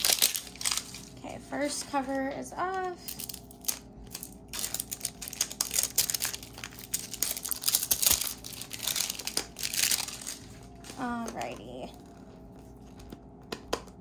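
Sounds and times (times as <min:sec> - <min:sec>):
plastic wrapping crinkling: 0:00.0 - 0:01.4, 0:02.7 - 0:13.6.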